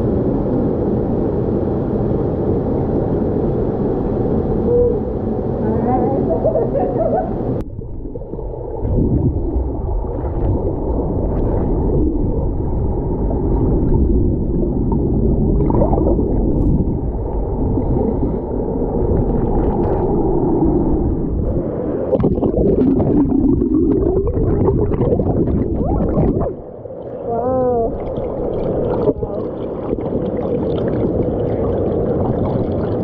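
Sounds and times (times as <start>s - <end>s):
muffled underwater waterfall rumble: 0.0s - 33.0s.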